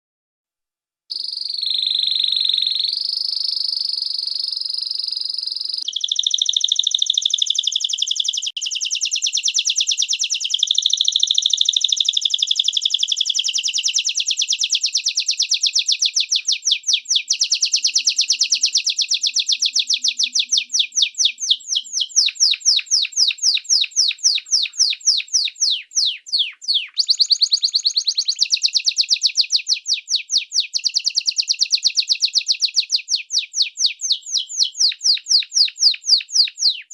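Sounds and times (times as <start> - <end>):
canary singing: 1.1 - 36.9.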